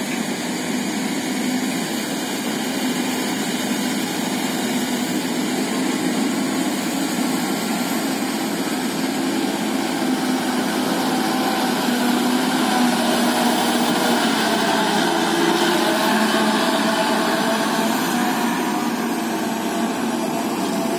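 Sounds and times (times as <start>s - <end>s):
diesel truck engine: 0.0s - 20.9s.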